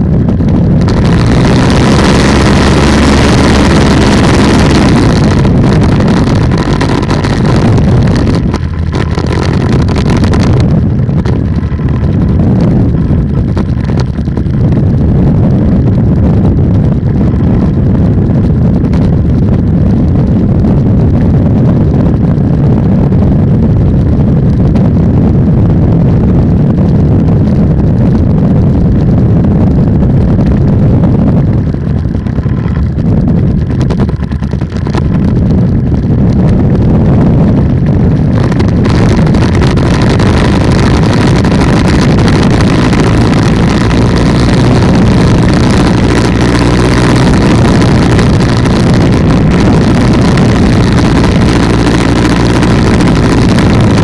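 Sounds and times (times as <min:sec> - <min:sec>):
two-stroke engine running: 0:00.0 - 0:54.0
wind rushing over microphone: 0:00.0 - 0:54.0.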